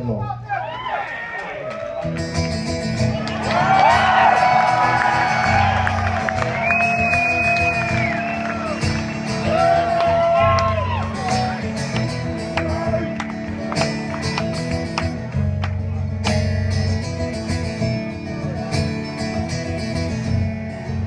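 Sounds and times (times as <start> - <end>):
acoustic guitar through pa: 2.0 - 21.0.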